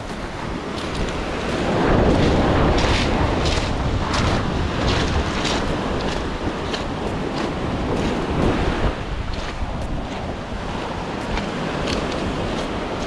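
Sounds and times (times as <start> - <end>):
footsteps crunching on stones: 0.0 - 13.0
surf washing onto pebbles: 0.0 - 13.0
wind buffeting microphone: 0.0 - 13.0.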